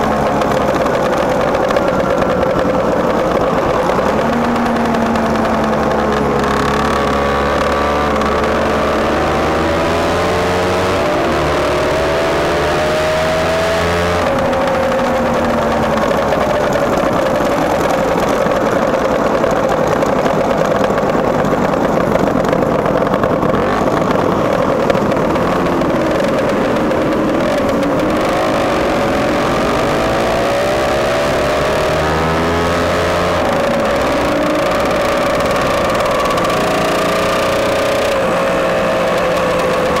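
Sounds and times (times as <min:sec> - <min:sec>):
scooter engine running: 0:00.0 - 0:40.0.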